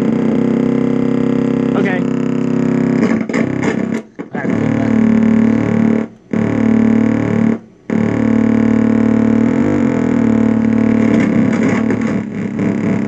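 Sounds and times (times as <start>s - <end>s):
synthesizer drone warbling: 0.0s - 13.0s.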